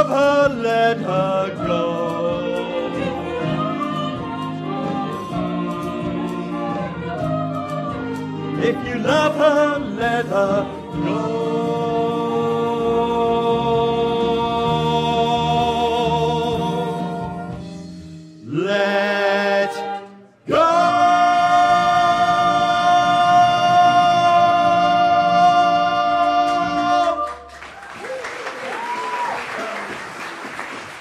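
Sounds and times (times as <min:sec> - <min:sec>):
vocal ensemble singing chords: 0:00.0 - 0:27.6.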